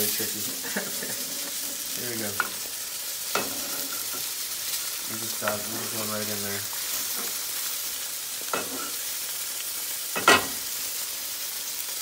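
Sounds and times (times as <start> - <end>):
eggs sizzling in a pan: 0.0 - 12.0.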